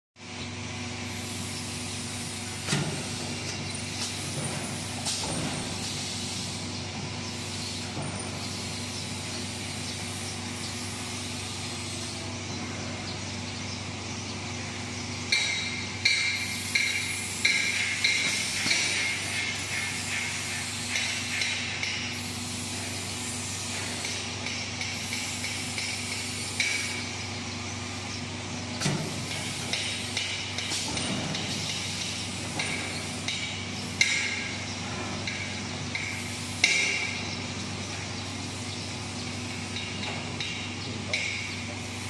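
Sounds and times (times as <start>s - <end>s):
packing machine humming: 0.2s - 42.0s.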